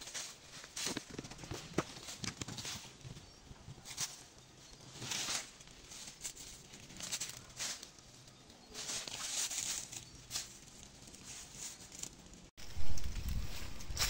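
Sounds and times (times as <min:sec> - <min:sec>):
dry leaves crunching underfoot: 0:00.0 - 0:14.0
leaves and stems rustling: 0:00.0 - 0:14.0.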